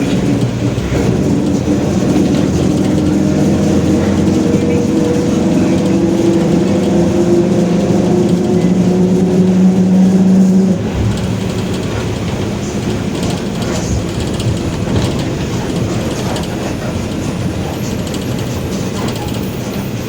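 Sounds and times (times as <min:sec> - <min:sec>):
bus body rattles: 0:00.0 - 0:20.0
bus differential growl: 0:00.0 - 0:20.0
road rumble: 0:00.0 - 0:20.0.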